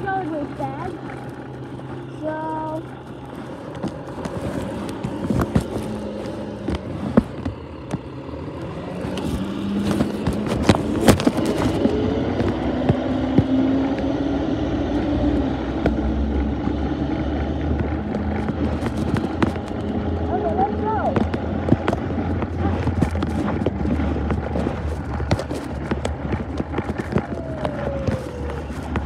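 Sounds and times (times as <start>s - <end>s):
garbage truck engine running: 0.0s - 29.0s
sharp clicks and knocks: 3.0s - 14.2s, 14.9s - 29.0s.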